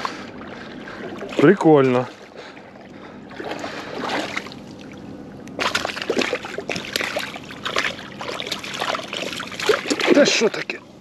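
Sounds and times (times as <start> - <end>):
feet splashing through shallow water: 0.0 - 10.6.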